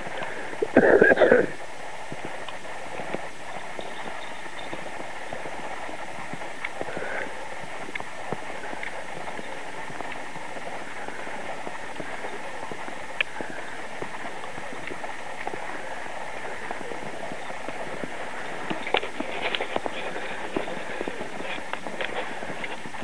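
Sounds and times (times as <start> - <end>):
footsteps crunching in snow: 0.0 - 23.0
steady background hiss: 0.0 - 23.0.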